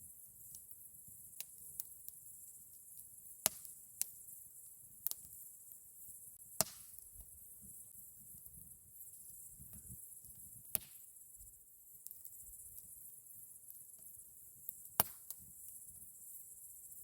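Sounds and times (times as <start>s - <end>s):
campfire wood crackling: 0.0s - 17.0s.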